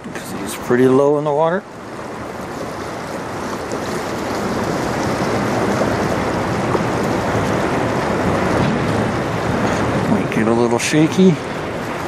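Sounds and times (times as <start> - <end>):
choppy river water: 0.0 - 12.0
wind rushing: 1.8 - 12.0.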